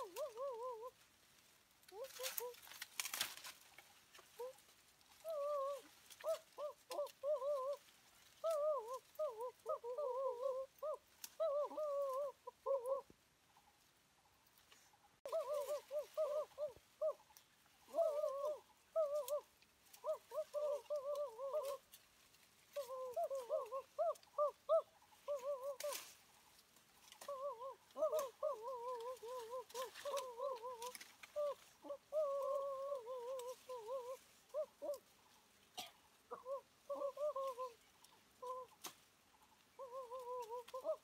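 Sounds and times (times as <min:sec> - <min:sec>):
rustle of leaves and branches: 0:00.0 - 0:41.0.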